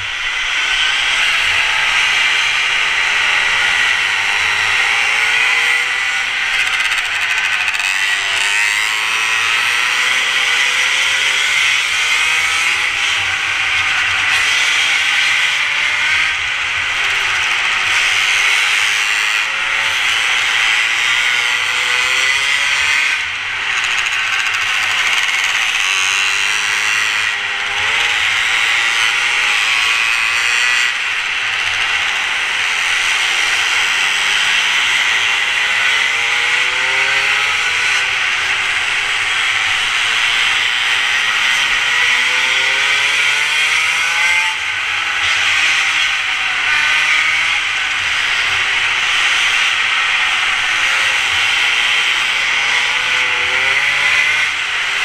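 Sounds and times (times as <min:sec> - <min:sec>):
mini moto engine revving: 0:00.0 - 0:55.0.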